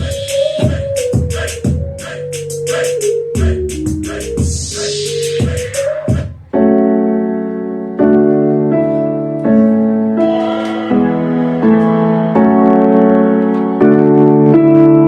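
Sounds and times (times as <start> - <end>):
beat-driven music: 0.0 - 15.0
sustained keyboard chords: 0.0 - 15.0.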